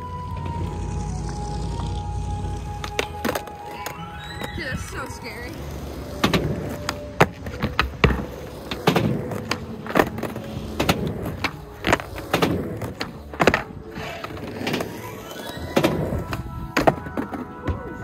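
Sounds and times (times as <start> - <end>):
skateboard wheels rumbling on concrete: 0.0 - 18.0
skateboard clacking and slapping: 0.3 - 18.0.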